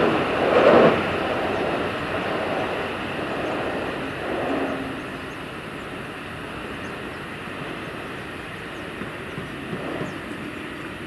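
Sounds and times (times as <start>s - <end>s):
distant diesel train rumbling: 0.0s - 11.0s.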